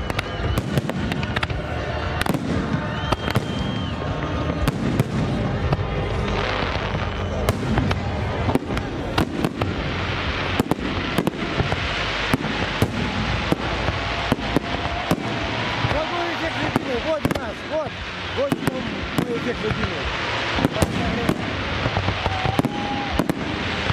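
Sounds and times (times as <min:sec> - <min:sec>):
fireworks bursting with sharp bangs: 0:00.0 - 0:23.9.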